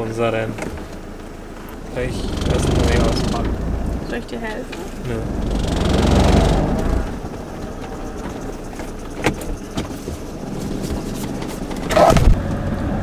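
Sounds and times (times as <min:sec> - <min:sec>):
diesel engine and road noise: 0:00.0 - 0:13.0.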